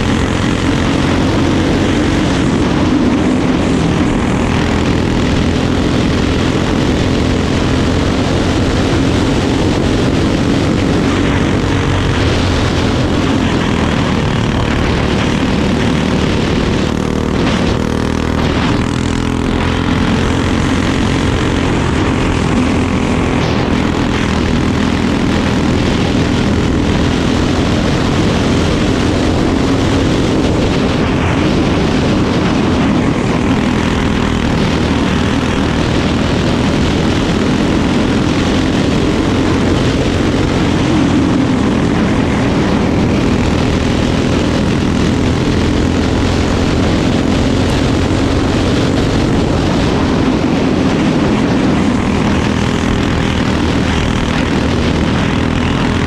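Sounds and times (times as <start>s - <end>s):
kart engine droning: 0.0s - 56.0s.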